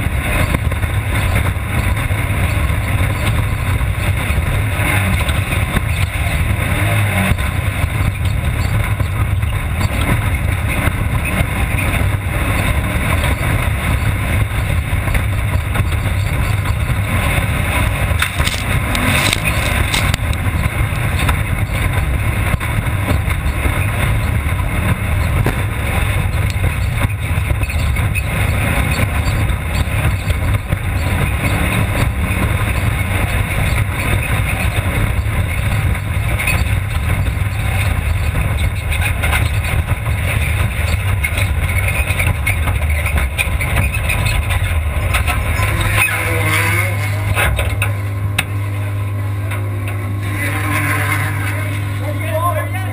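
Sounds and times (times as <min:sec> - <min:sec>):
race car engine drone: 0:00.0 - 0:52.9
rattling and rushing noise: 0:00.0 - 0:52.9.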